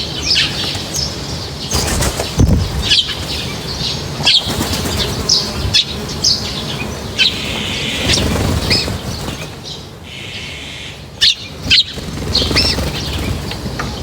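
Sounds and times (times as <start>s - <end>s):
birds chirping: 0.0s - 14.0s
wings fluttering: 0.3s - 14.0s.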